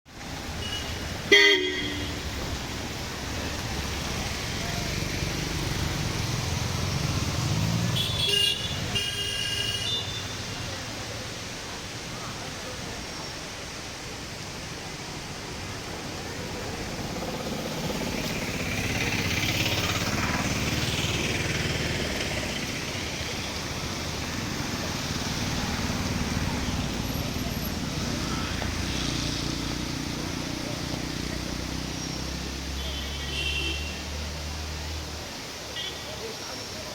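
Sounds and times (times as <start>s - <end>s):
road traffic: 0.0s - 36.9s.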